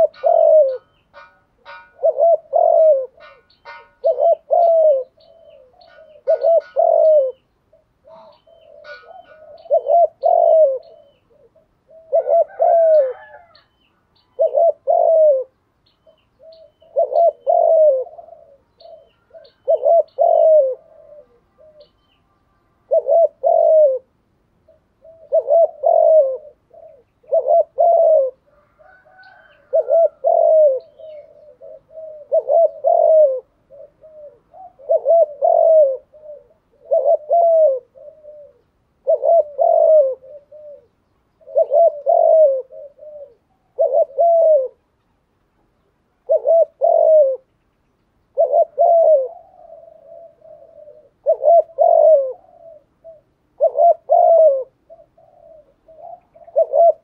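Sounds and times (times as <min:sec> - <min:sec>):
dove cooing: 0:00.0 - 0:44.9, 0:45.6 - 0:47.6, 0:48.3 - 0:57.0.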